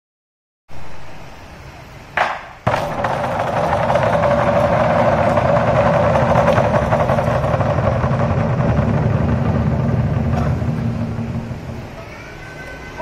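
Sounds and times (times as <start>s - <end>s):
barrel drums rolling: 2.2s - 13.0s.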